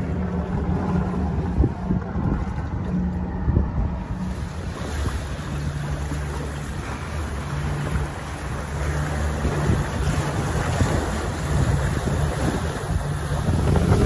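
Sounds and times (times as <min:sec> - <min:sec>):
outboard motor humming: 0:00.0 - 0:14.0
wind buffeting microphone: 0:00.0 - 0:14.0.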